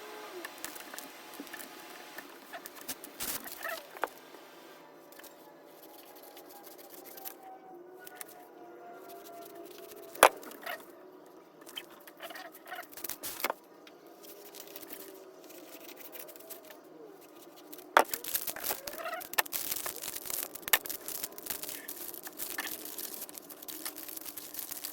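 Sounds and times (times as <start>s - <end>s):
faint background music: 0.0s - 24.9s
paper rustling and crinkling: 0.6s - 4.4s, 5.1s - 10.9s, 11.6s - 24.9s.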